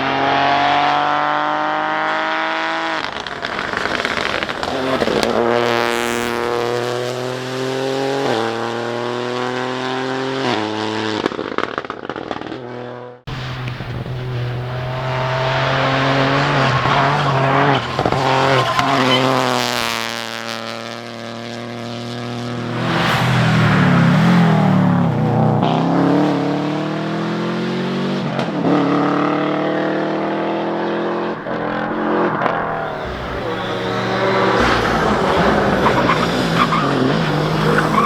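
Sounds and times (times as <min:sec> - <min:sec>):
rally car engines at full throttle: 0:00.0 - 0:38.0.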